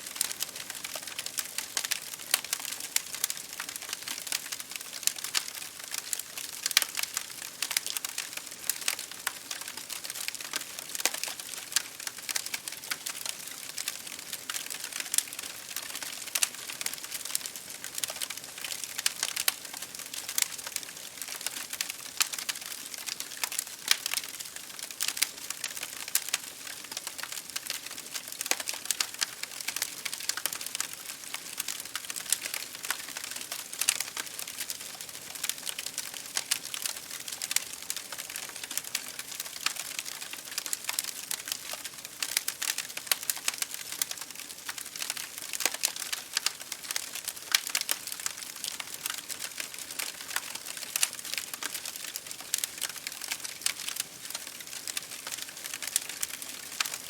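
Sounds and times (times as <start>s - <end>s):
rain hissing against a window: 0.0s - 57.0s
wood fire crackling and popping: 0.0s - 57.0s.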